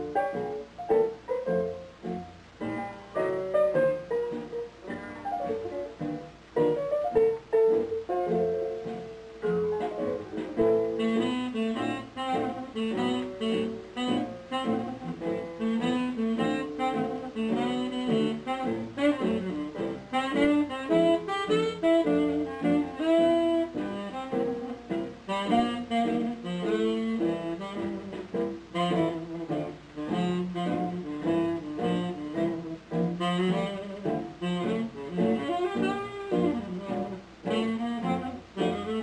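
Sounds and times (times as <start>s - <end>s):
lively instrumental music: 0.0s - 39.0s.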